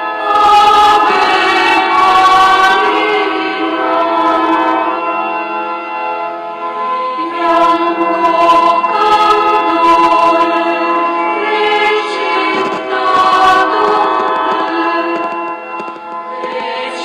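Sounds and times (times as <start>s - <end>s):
voices singing a slow hymn: 0.0s - 5.1s, 6.8s - 15.3s, 16.3s - 17.0s.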